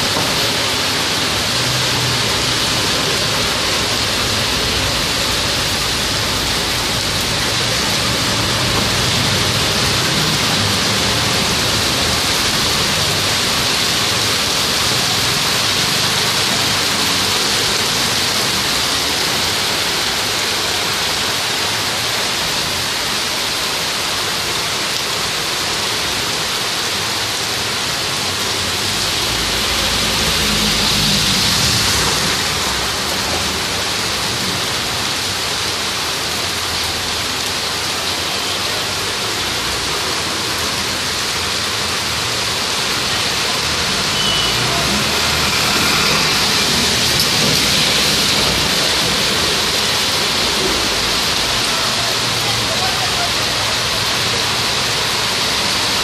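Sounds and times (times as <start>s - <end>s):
heavy rain on a wet street: 0.0s - 56.0s.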